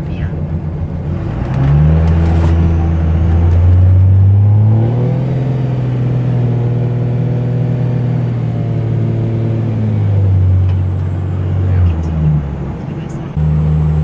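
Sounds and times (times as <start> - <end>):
diesel engine drone in cab: 0.0 - 14.0.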